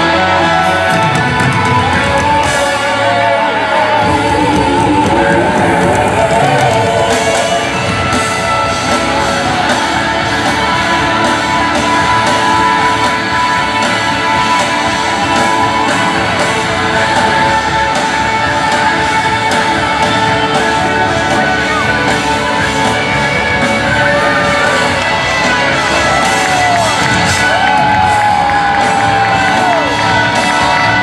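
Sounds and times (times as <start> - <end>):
electric guitar lead: 0.0 - 31.0
live band music: 0.0 - 31.0.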